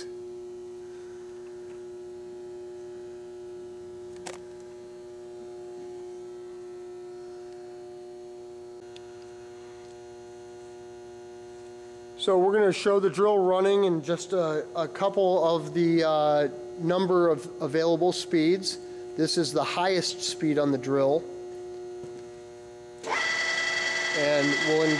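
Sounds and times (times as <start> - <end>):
electrical hum of drill: 0.0 - 24.9.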